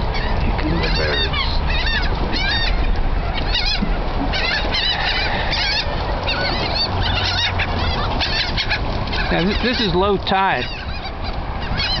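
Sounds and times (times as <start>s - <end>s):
seagulls calling: 0.0s - 12.0s.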